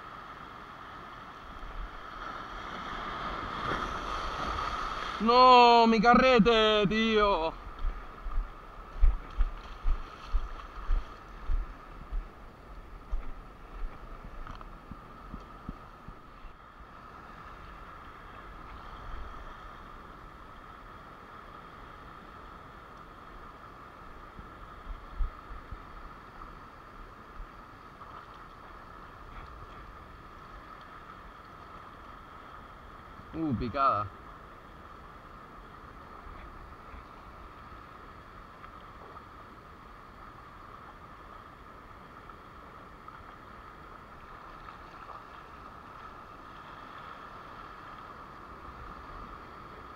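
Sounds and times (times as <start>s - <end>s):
sea surf: 0.0s - 49.9s
small waves on rocky shore: 0.0s - 49.9s
wind hiss: 0.0s - 49.9s.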